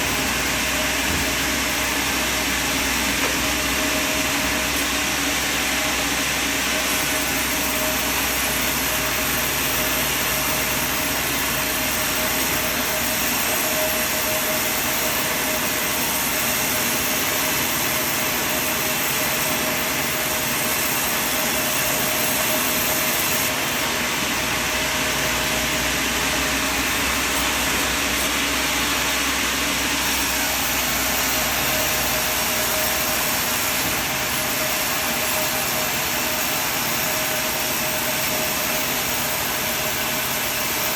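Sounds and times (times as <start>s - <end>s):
sawmill machine running: 0.0s - 40.9s
steady saw whine: 0.0s - 40.9s.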